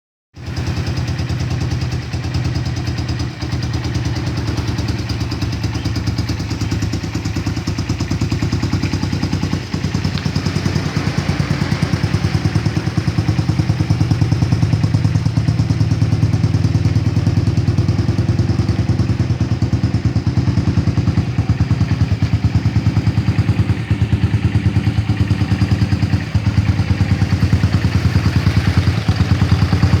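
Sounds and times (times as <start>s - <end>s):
motorcycle engine idling: 0.4s - 30.0s.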